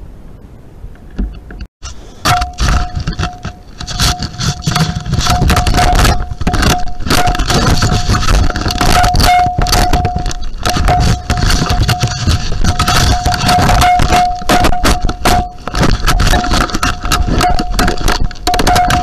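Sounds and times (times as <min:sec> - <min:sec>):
animal rubbing against camera: 0:01.8 - 0:18.2.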